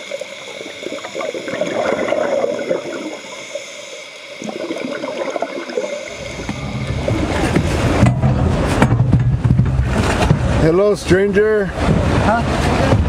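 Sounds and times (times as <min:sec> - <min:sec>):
underwater bubbles gurgling: 0:00.0 - 0:10.6.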